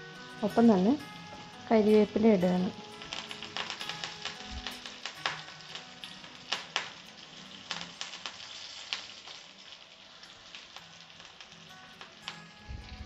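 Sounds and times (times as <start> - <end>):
garlic sizzling in hot oil: 0.0 - 13.0
crackling pops: 0.2 - 13.0.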